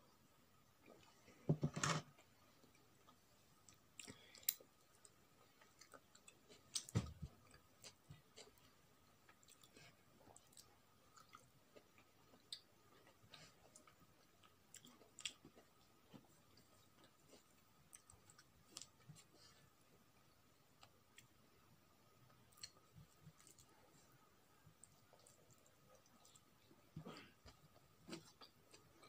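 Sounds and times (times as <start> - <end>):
person chewing and smacking: 2.6 - 19.6, 22.3 - 29.0.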